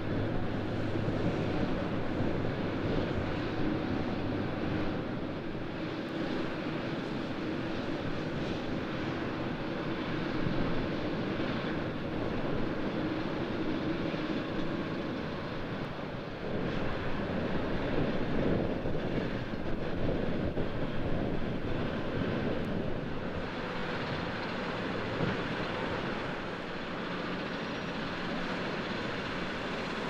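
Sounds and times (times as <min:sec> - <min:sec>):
jet engine rumble: 0:00.0 - 0:30.0.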